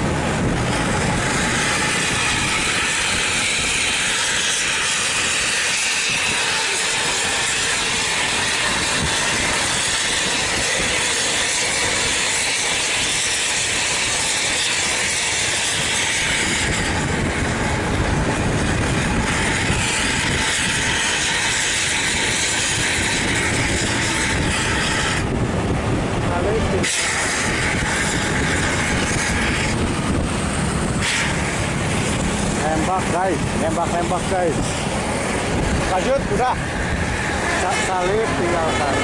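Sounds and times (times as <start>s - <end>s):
deep engine rumble: 0.0s - 39.0s
road noise of wind and tyres: 0.0s - 39.0s.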